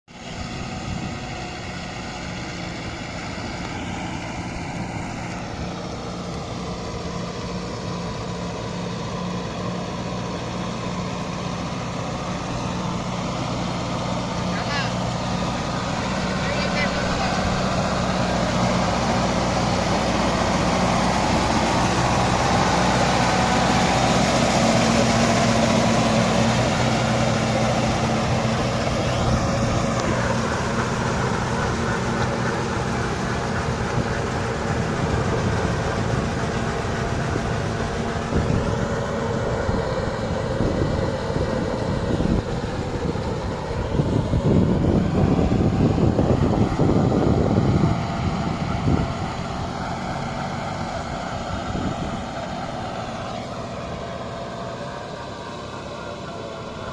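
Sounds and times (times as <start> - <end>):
tractor diesel engine under load: 0.0 - 56.9
rotavator working wet mud: 0.1 - 56.9.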